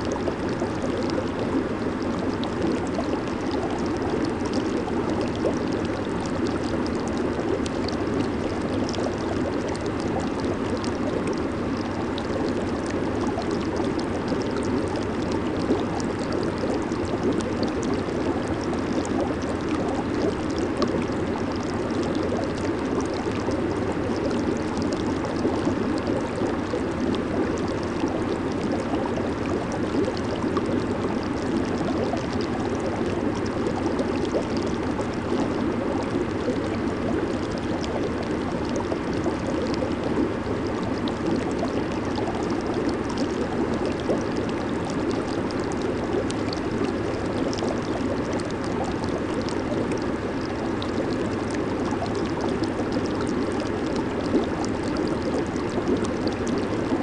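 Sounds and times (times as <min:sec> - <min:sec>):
hot tub water bubbling: 0:00.0 - 0:57.0.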